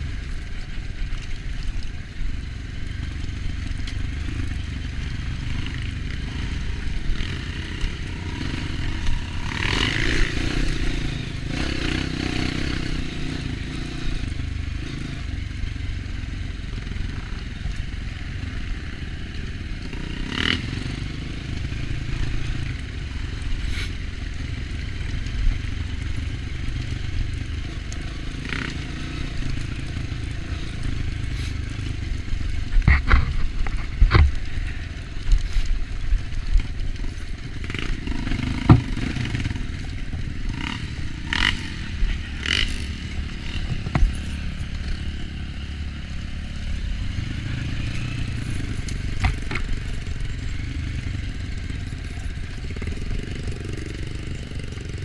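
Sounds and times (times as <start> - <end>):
motorcycle engine chugging: 0.0 - 55.0.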